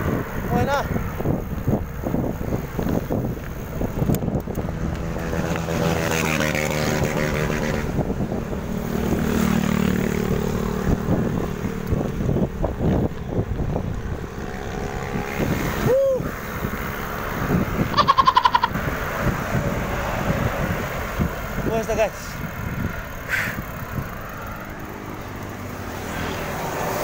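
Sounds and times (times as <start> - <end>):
wind on microphone: 0.0 - 24.2
motor vehicle engine passing: 0.0 - 27.0
road noise: 0.0 - 27.0.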